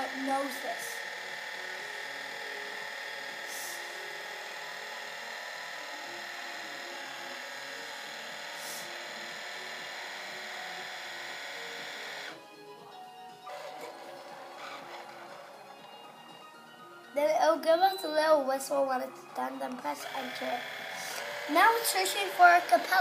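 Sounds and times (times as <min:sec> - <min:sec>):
electric motor and gear whine: 0:00.0 - 0:17.2, 0:19.1 - 0:23.0.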